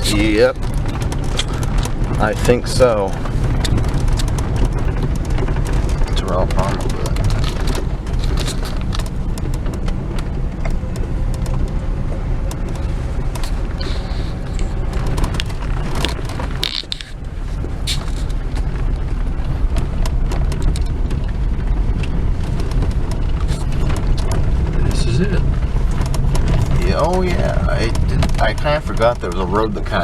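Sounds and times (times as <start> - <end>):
car engine and road rumble: 0.0 - 30.0
knocks and rattles: 0.0 - 30.0.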